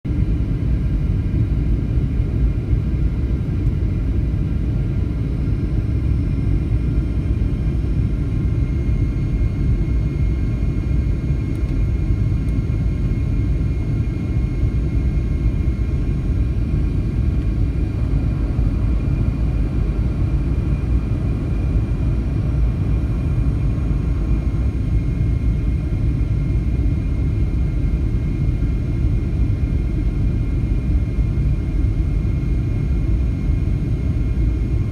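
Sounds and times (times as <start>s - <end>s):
jet engine low rumble in cabin: 0.1s - 34.9s
faint steady whine: 0.2s - 34.9s.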